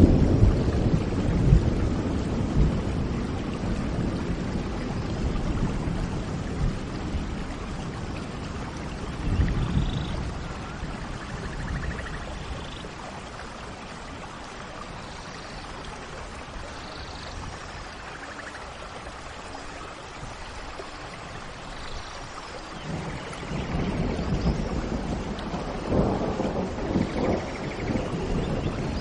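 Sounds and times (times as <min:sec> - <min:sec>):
low rumble of thunder: 0:00.0 - 0:18.5, 0:20.2 - 0:29.0
steady rain: 0:00.0 - 0:29.0.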